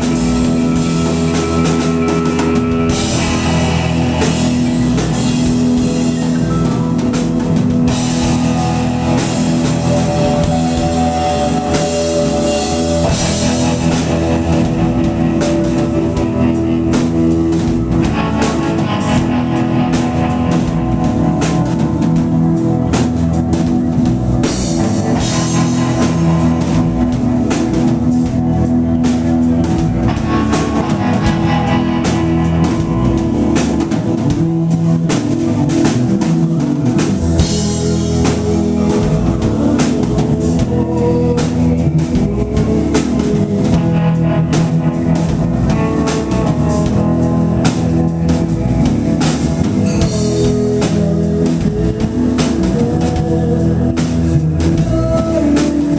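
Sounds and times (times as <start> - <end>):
live rock band playing: 0.0 - 55.9
person singing: 0.0 - 55.9.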